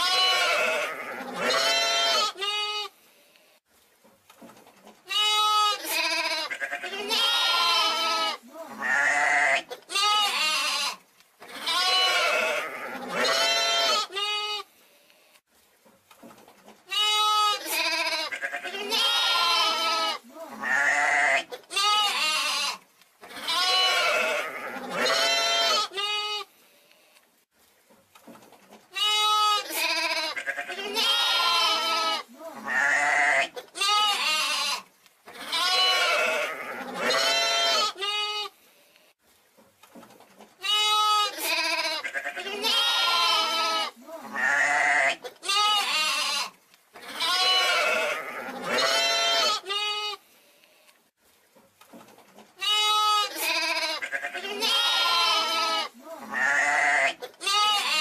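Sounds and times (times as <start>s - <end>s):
young sheep bleating: 0.0s - 3.0s, 5.1s - 14.7s, 16.9s - 26.5s, 29.0s - 38.6s, 40.6s - 50.2s, 52.6s - 58.0s.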